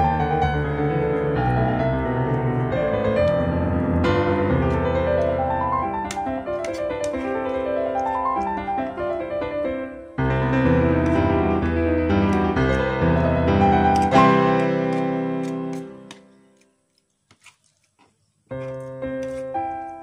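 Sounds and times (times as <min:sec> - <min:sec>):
piano music: 0:00.0 - 0:16.4, 0:18.6 - 0:20.0.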